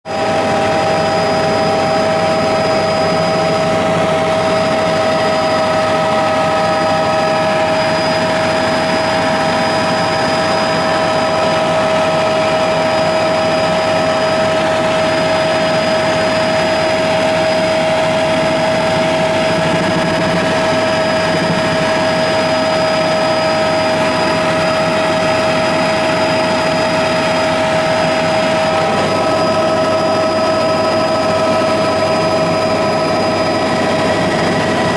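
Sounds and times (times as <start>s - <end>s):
constant high whine: 0.1s - 34.9s
helicopter engine and rotor hum: 0.1s - 34.9s.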